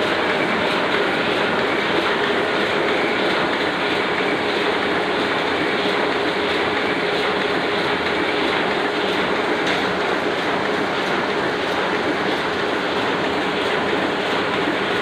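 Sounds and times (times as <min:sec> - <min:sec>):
printing press running: 0:00.0 - 0:15.0.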